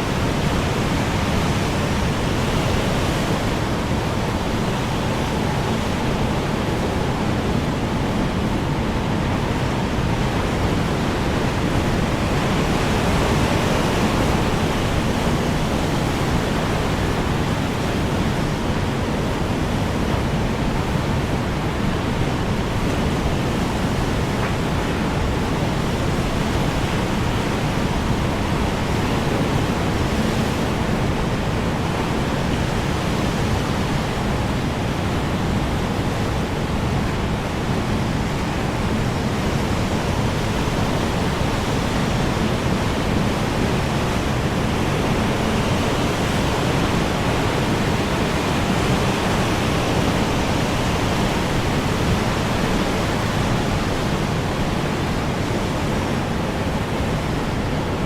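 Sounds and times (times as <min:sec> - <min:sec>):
strong wind blowing: 0:00.0 - 0:58.0.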